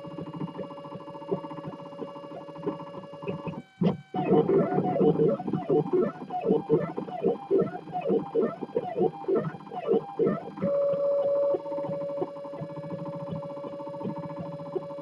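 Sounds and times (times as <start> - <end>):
printer stepper motors whining: 0.0 - 15.0.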